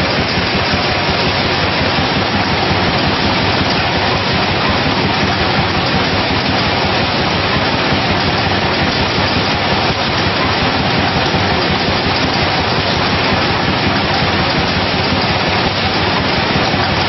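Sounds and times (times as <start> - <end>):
bottling machine noise: 0.0 - 17.0.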